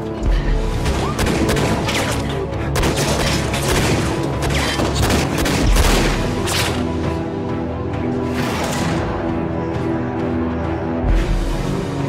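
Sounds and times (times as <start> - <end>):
tense drama score: 0.0 - 12.0.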